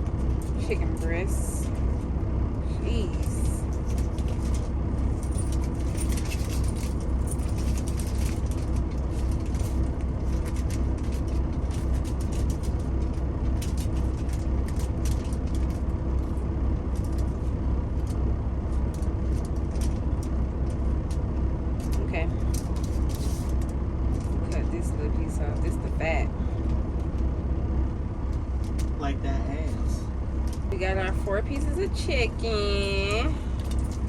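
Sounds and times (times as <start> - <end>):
truck engine humming: 0.0 - 34.0.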